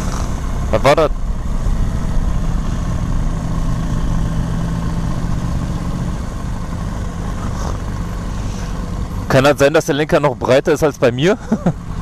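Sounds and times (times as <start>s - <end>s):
motorcycle engine running: 0.0s - 10.3s
wind and road noise: 0.0s - 12.0s.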